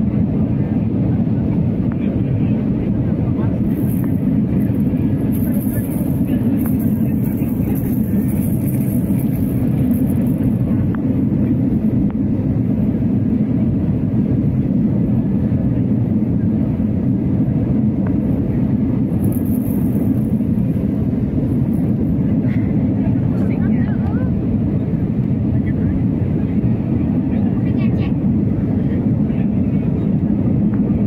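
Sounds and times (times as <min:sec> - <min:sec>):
airflow in cabin: 0:00.0 - 0:31.0
jet engines rumbling: 0:00.0 - 0:31.0.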